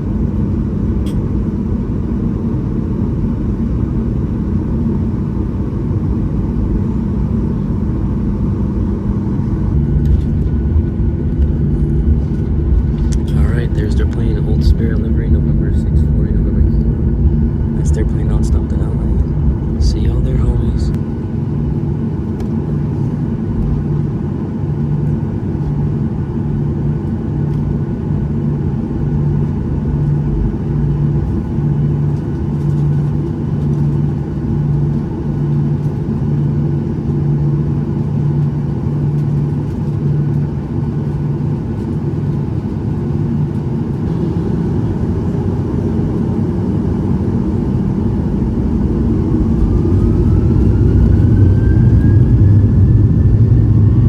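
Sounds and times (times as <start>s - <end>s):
jet engine whine: 0.0s - 54.0s
jet engines rumbling: 0.0s - 54.0s
pulsing low hum: 0.0s - 54.0s.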